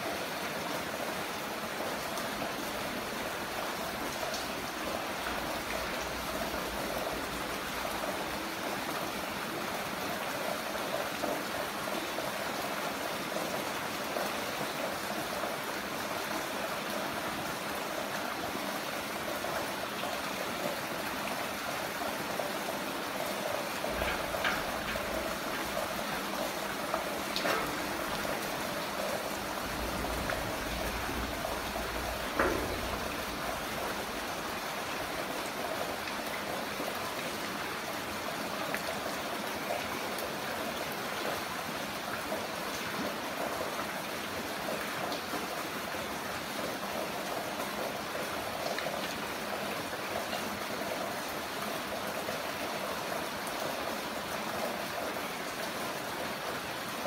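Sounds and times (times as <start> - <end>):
heavy rain falling: 0.0 - 57.0
water drips and splashes: 0.0 - 57.0.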